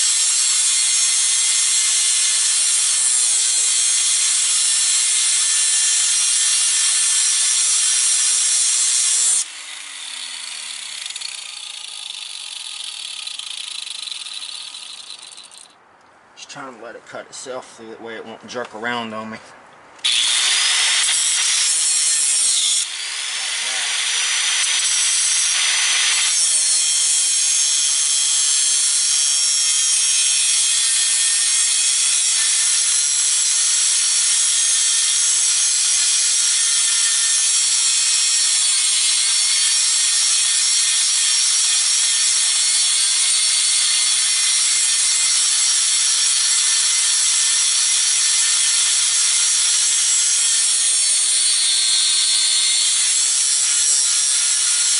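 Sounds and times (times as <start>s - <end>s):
cutting wheel grinding metal: 0.0s - 15.8s, 20.0s - 54.9s.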